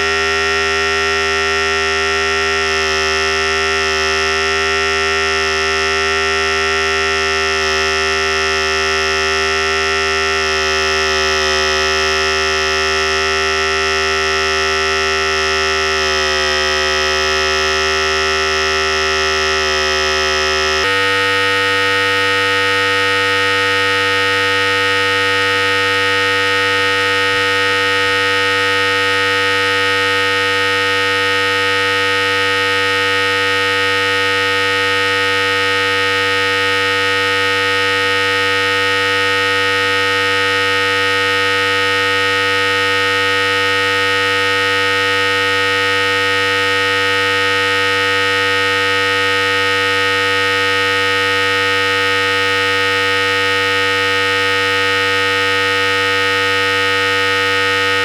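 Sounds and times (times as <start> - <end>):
electric hair clipper buzzing: 0.0 - 53.0.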